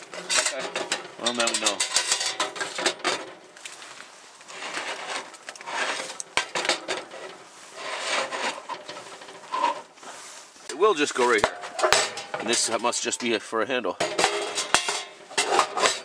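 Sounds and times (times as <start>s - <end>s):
sheet metal scraping and clanking: 0.0s - 3.4s, 4.5s - 10.2s, 10.8s - 13.4s, 14.0s - 16.0s.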